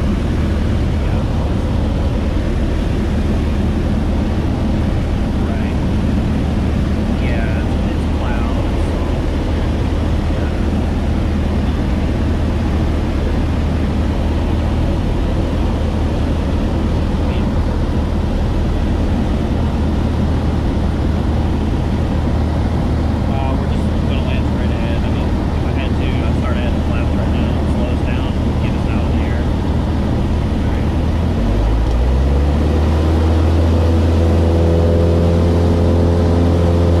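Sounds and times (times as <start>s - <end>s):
light aircraft engine droning: 0.0s - 37.0s.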